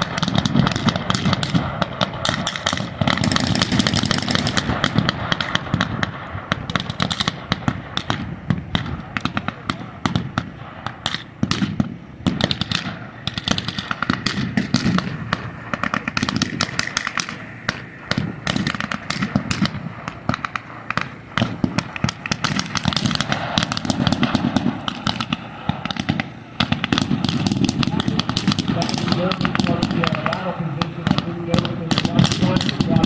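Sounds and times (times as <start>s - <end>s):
guns firing blanks: 0.0s - 33.0s.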